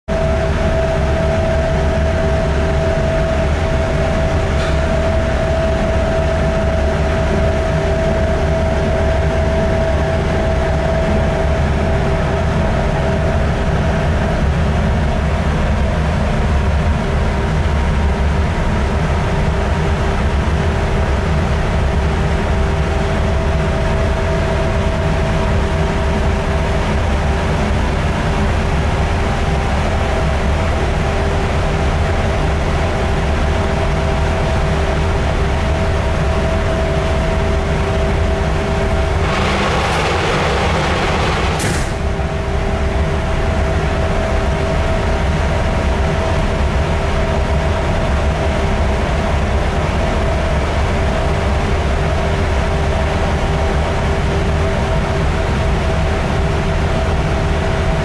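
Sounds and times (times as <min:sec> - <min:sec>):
diesel engine drone: 0:00.1 - 0:58.0
machinery hums: 0:00.1 - 0:58.0.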